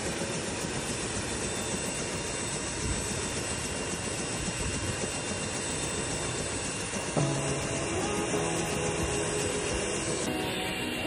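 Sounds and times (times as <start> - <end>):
helicopter rotor rushing noise: 0.0 - 11.0
helicopter turbine whine: 0.0 - 11.0.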